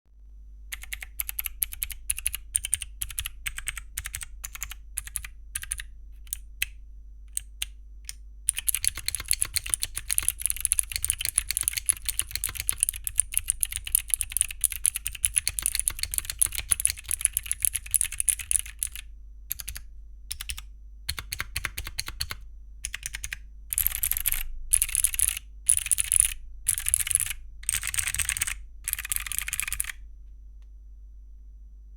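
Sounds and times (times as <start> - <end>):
mechanical keyboard typing: 0.7 - 30.0.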